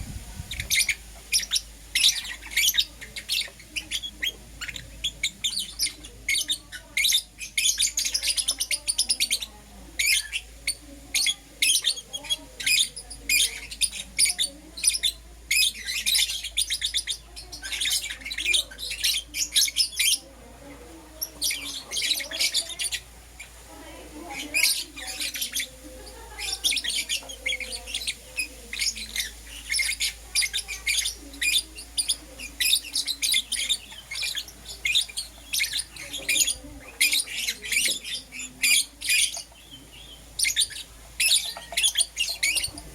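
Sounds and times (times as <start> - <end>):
lovebirds chirping: 0.0 - 42.9.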